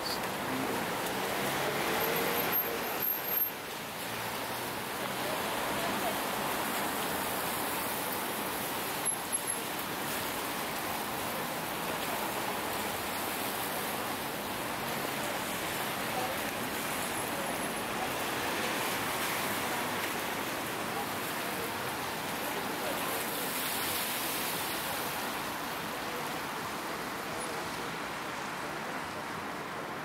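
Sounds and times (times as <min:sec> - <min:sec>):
street traffic hiss: 0:00.0 - 0:30.0.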